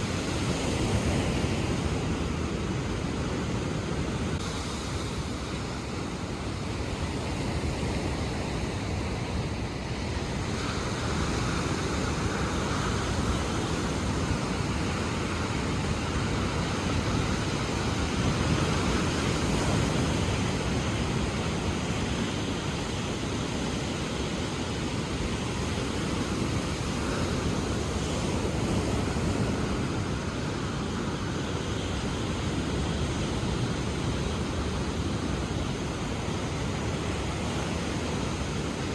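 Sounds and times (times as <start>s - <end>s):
ocean surf washing in: 0.0s - 38.9s.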